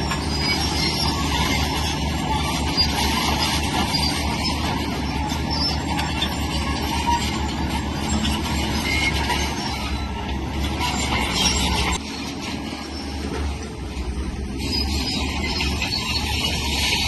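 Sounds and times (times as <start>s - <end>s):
bulldozer diesel engine: 0.0s - 17.0s
steel tracks clanking and squealing: 0.0s - 17.0s.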